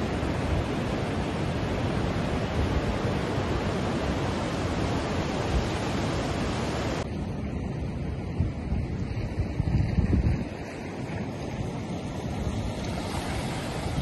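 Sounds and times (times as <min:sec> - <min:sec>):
surf washing up a beach: 0:00.0 - 0:14.0.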